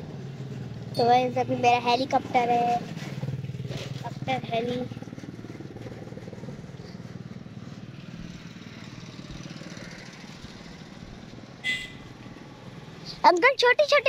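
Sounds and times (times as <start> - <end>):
motorcycle engines passing: 0.0 - 14.0.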